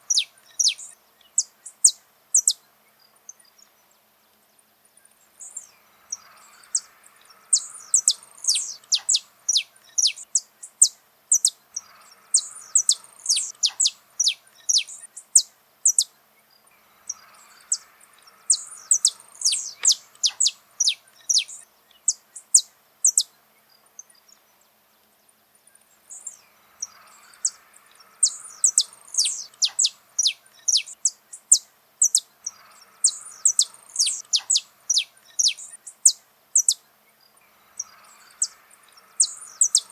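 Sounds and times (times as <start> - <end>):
finch singing: 0.0 - 2.7, 5.3 - 24.6, 25.7 - 39.9.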